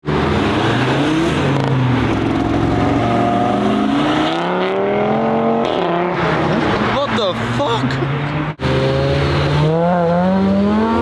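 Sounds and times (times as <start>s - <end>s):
car engine and exhaust accelerating: 0.0s - 11.0s.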